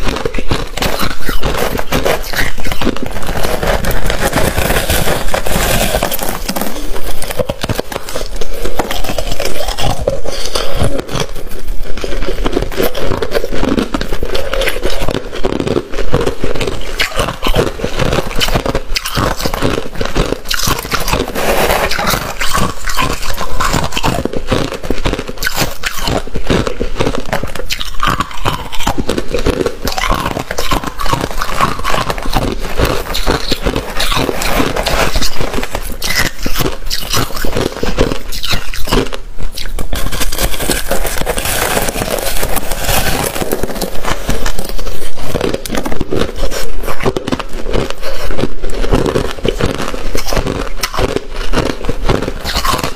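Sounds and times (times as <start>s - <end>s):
person crunching ice: 0.0s - 52.9s.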